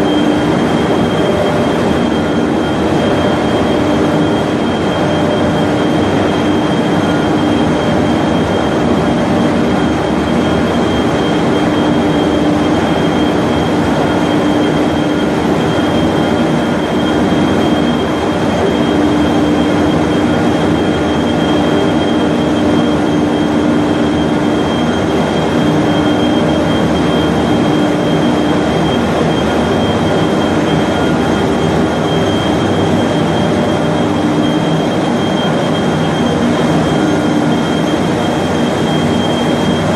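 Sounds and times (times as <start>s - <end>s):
machine drive line humming: 0.0s - 39.9s.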